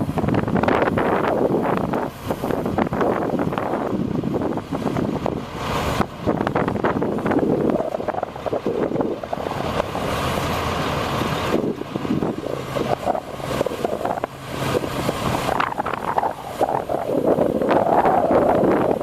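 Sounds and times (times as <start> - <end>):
diesel engine running: 0.0 - 19.0
wind buffeting microphone: 0.0 - 19.0.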